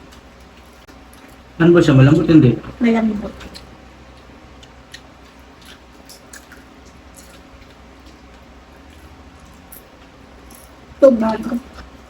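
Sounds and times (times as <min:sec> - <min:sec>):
people chewing and lip smacking: 0:00.0 - 0:01.6, 0:03.3 - 0:12.0
low steady hum: 0:00.0 - 0:12.0.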